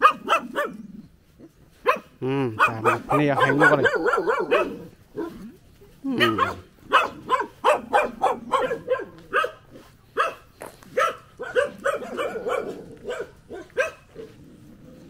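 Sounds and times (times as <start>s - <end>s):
dog barking: 0.0s - 1.0s, 1.8s - 5.5s, 6.2s - 14.4s.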